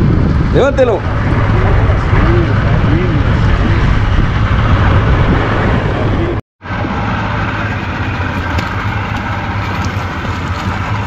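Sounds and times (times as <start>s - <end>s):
boat motor droning: 0.0s - 11.0s
water wash: 0.0s - 11.0s.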